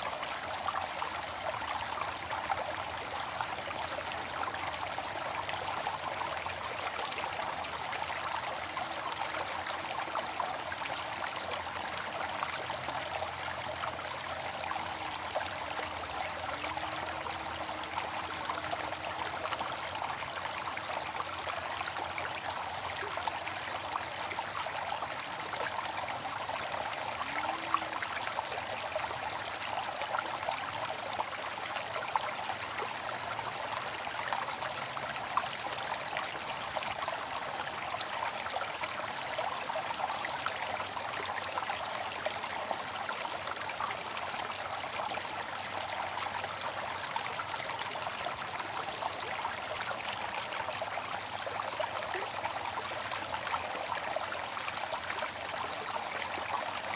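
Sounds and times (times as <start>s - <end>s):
water fountain splashing: 0.0s - 56.9s.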